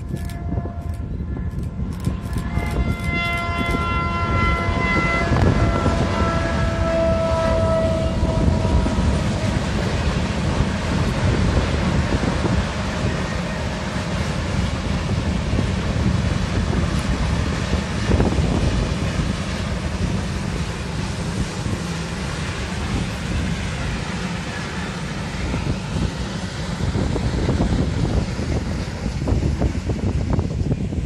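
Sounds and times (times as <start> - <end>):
freight train wagons rumbling: 0.0 - 31.0
wind buffeting microphone: 0.0 - 31.0.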